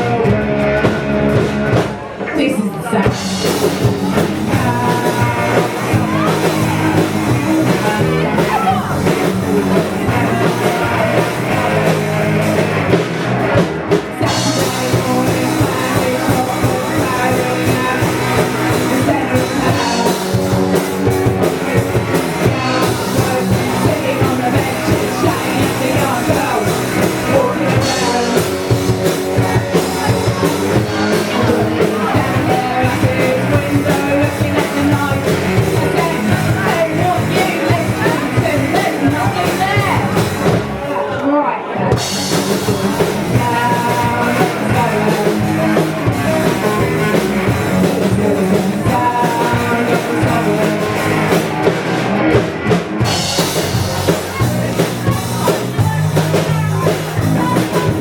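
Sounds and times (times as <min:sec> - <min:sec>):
drum kit: 0:00.0 - 0:41.1, 0:41.8 - 0:58.0
guitar: 0:00.0 - 0:58.0
person singing: 0:00.0 - 0:58.0.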